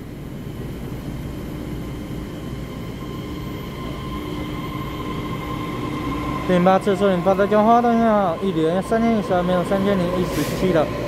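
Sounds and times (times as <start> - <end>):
higher whine: 0.0 - 11.0
train cars rumbling: 0.0 - 11.0.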